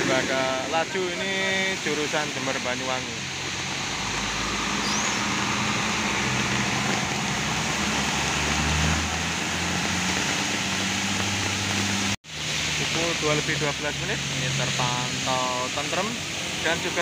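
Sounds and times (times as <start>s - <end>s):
rain pouring on wet road: 0.0s - 17.0s
bus engine driving past: 3.2s - 17.0s.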